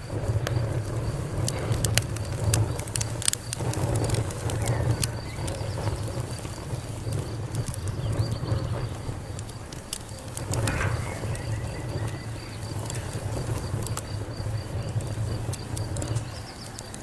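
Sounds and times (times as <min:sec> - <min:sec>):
low rumble of fire: 0:00.0 - 0:17.0
wood fire crackling: 0:00.0 - 0:17.0.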